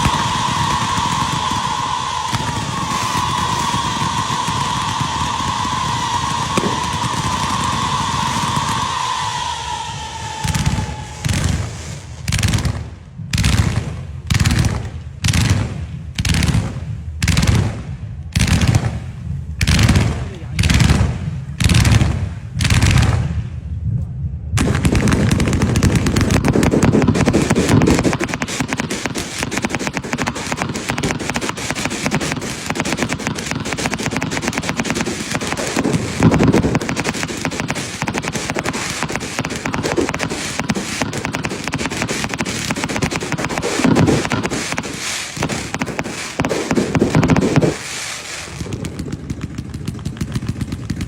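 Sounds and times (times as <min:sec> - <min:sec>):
fireworks crackling bangs: 0:00.0 - 0:23.7, 0:24.6 - 0:51.0.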